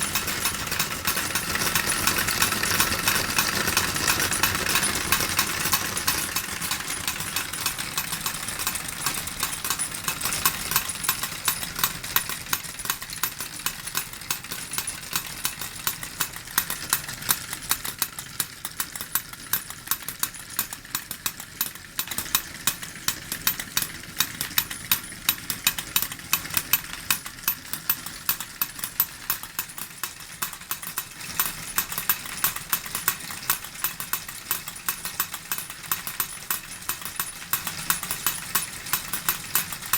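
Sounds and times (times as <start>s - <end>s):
toy hammers clattering on metal: 0.0s - 39.9s.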